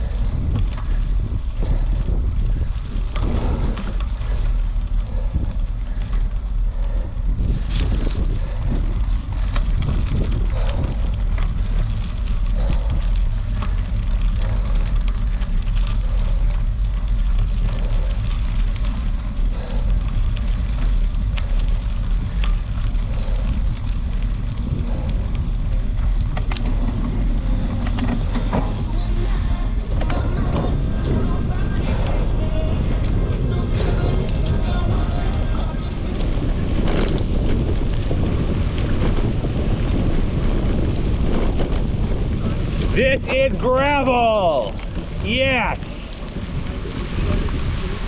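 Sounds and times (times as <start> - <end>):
wind buffeting microphone: 0.0 - 48.0
tyres ticking on wet road: 8.4 - 48.0.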